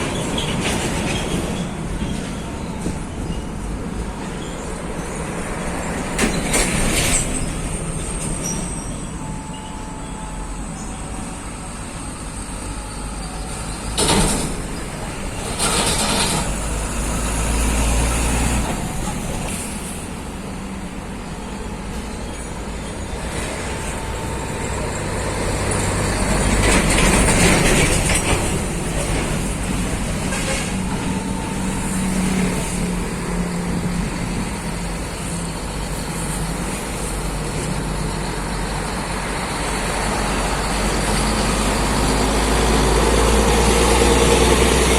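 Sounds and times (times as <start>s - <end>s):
heavy trucks passing by: 0.0s - 44.9s.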